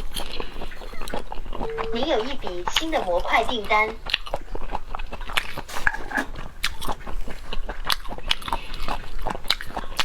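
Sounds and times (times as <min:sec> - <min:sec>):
chewing seafood close up: 0:00.0 - 0:10.0.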